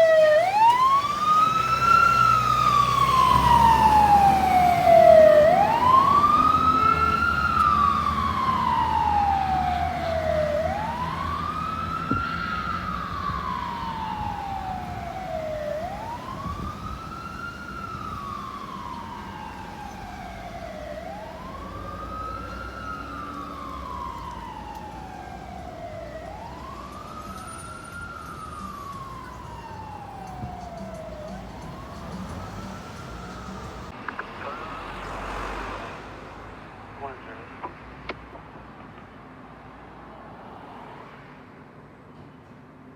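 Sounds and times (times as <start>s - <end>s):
fire truck siren wailing: 0.0s - 35.2s.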